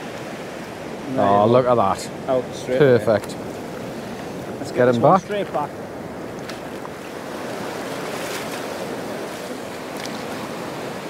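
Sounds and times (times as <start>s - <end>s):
surf rushing: 0.0s - 11.0s
waves washing over sand: 0.0s - 11.0s.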